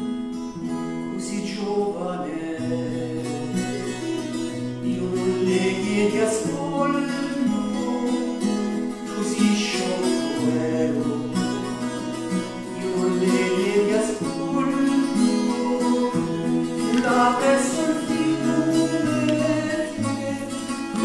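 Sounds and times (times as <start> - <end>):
acoustic guitar: 0.0 - 21.0
small plucked string instrument: 0.0 - 21.0.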